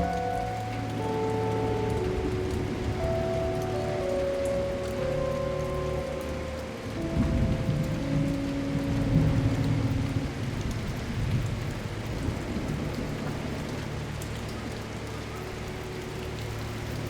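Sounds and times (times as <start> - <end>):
thunder rumbling: 0.0 - 16.7
steady rain falling: 0.0 - 17.0.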